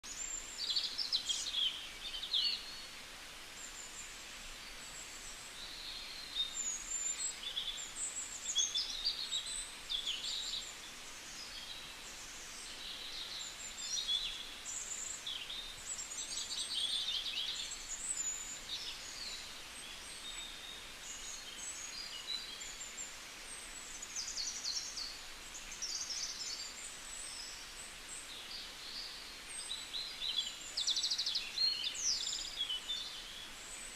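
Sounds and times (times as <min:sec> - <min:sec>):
songbirds chirping and singing: 0:03.8 - 0:33.9.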